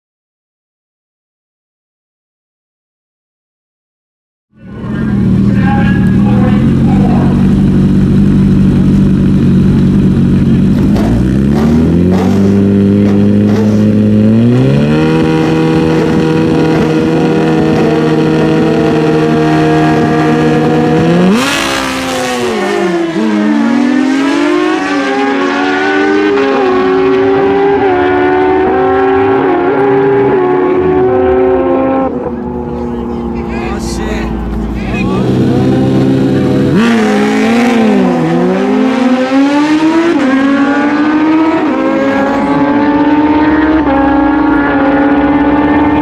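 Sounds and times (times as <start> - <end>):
motorcycle engines revving: 4.6 - 46.0.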